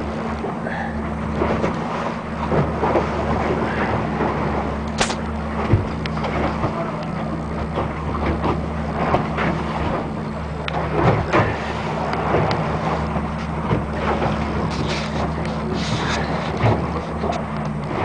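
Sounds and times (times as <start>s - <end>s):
boat engine running: 0.0s - 18.0s
knocks and splashes: 0.0s - 18.0s
water rushing along hull: 0.0s - 18.0s
wind: 0.0s - 18.0s.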